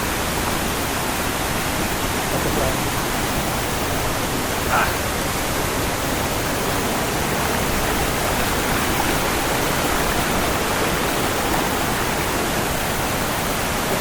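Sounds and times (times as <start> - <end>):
waterfall and stream rushing: 0.0 - 14.0.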